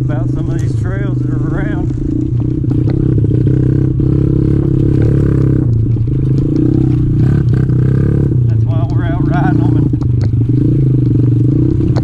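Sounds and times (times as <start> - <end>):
bike rattling on rough trail: 0.0 - 12.0
small motorcycle engine running: 0.0 - 12.0.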